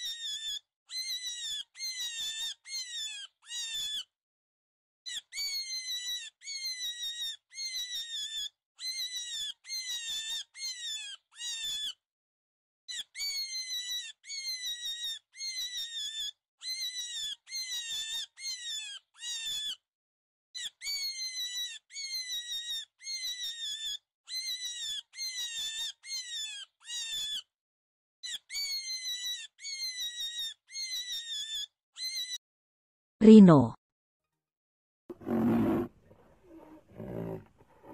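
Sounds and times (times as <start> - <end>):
high squeaky animal calls: 0.0 - 4.1, 5.1 - 12.0, 12.9 - 19.8, 20.6 - 27.5, 28.2 - 32.4, 35.2 - 37.9.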